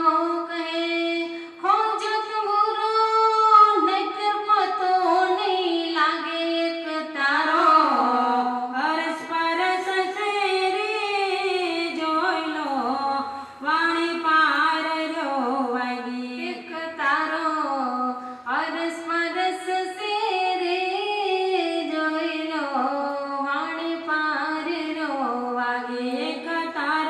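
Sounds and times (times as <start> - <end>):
women singing unaccompanied: 0.0 - 27.0.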